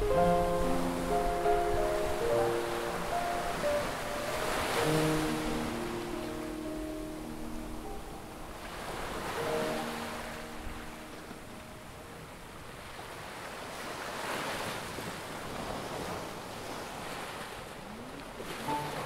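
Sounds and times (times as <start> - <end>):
ocean surf washing onto shore: 0.0 - 19.0.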